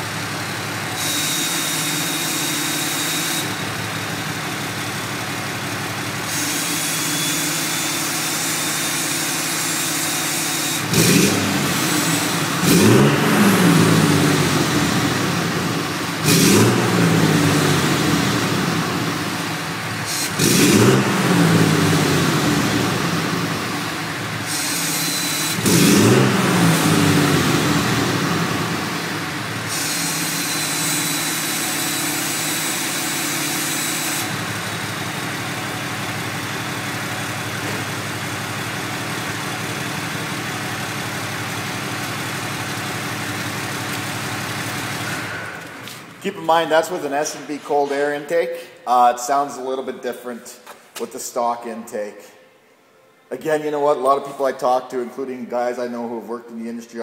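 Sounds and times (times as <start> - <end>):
diesel engine idling and revving: 0.0 - 46.4.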